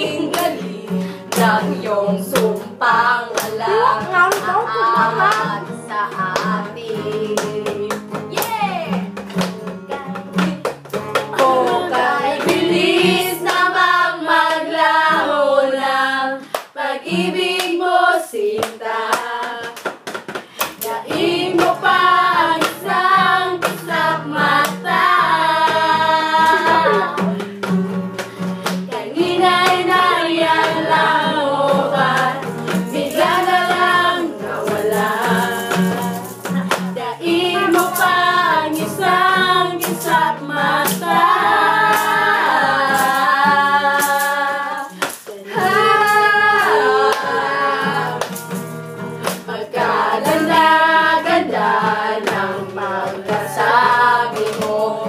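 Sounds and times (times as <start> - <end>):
acoustic guitar: 0.0 - 55.0
women singing in unison: 0.0 - 55.0.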